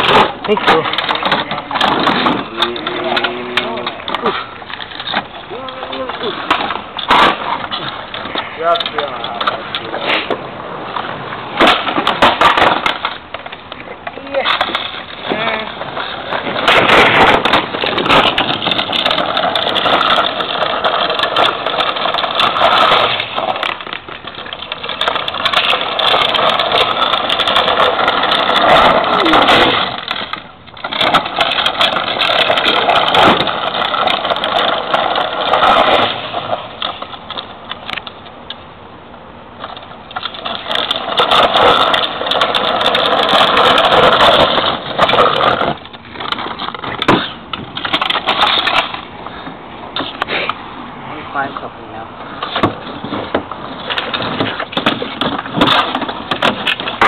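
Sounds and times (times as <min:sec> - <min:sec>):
plastic trike wheels rumbling: 0:00.0 - 0:57.0
skateboard wheels on asphalt: 0:00.0 - 0:57.0.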